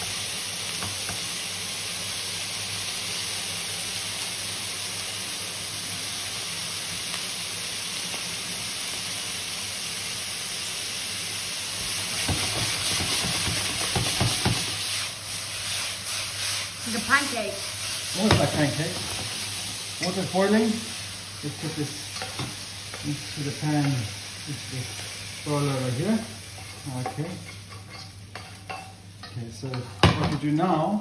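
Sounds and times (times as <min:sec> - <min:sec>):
meat sizzling in a pan: 0:00.0 - 0:31.0.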